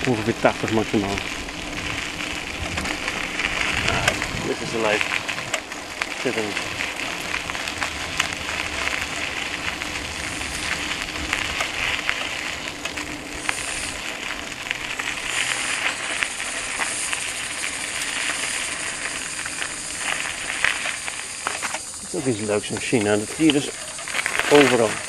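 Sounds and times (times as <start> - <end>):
bicycle tyres on gravel: 0.0 - 25.0
gravel crunching clicks: 0.0 - 25.0.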